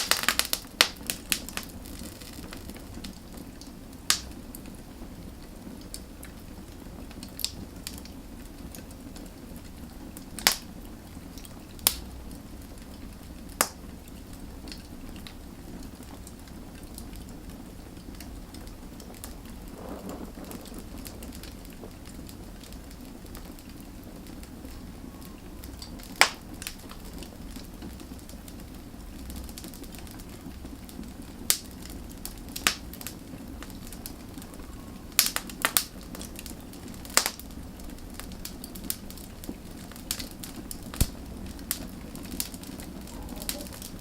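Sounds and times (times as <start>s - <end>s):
wood fire crackling and popping: 0.0s - 44.0s.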